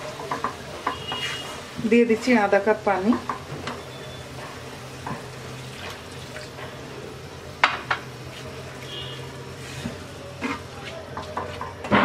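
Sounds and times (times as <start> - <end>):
cabbage sizzling in pan: 0.0 - 10.7.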